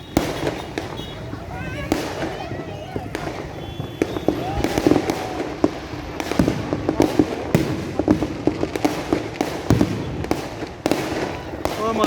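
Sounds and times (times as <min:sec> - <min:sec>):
firecracker bangs: 0:00.0 - 0:12.0
fireworks crackling: 0:00.0 - 0:12.0.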